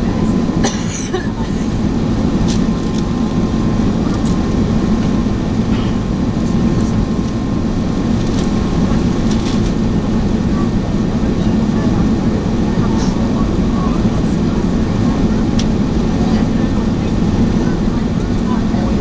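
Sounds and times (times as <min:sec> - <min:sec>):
jet engine rumble and airflow: 0:00.0 - 0:19.0.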